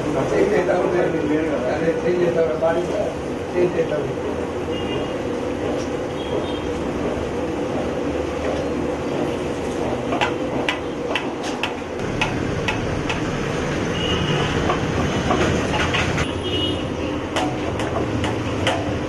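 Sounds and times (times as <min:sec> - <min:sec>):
noisy background: 0:00.0 - 0:19.0.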